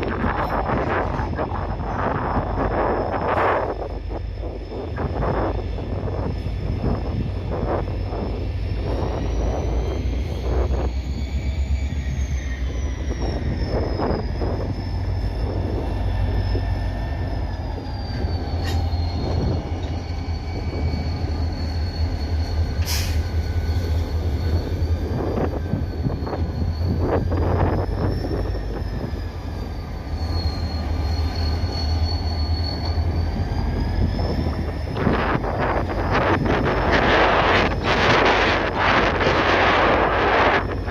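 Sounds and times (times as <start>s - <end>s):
train cars knocking and clanking: 0.0s - 10.8s, 13.3s - 40.9s
heavy low train rumble: 0.0s - 40.9s
train wheels squealing on rail: 0.0s - 40.9s.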